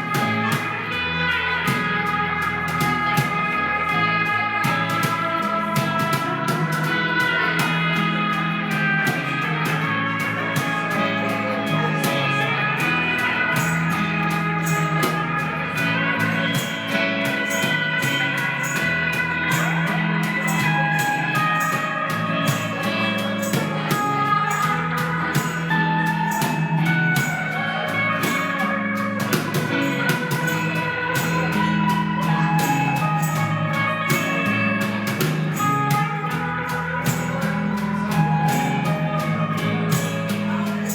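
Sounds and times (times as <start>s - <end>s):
bass line: 0.0s - 40.9s
guitar: 0.0s - 40.9s
live band instrumental: 0.0s - 40.9s.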